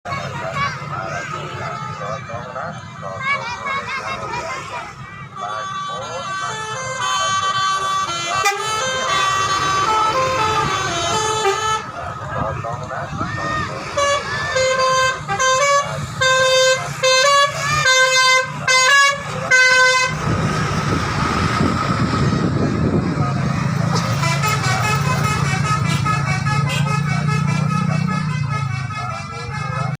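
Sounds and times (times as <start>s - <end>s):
bus engine droning: 0.1s - 30.0s
voices: 0.1s - 30.0s
multi-tone bus air horn melody: 4.5s - 30.0s.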